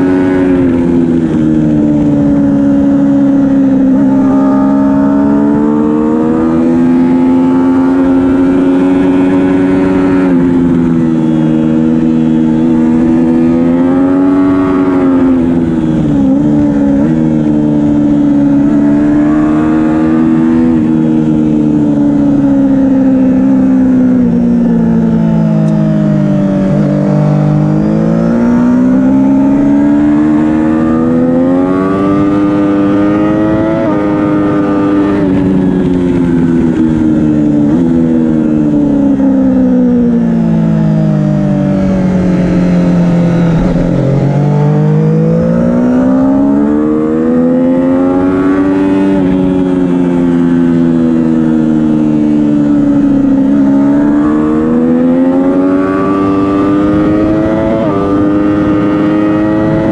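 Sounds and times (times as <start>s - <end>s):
motorcycle engine at racing speed: 0.0s - 59.9s.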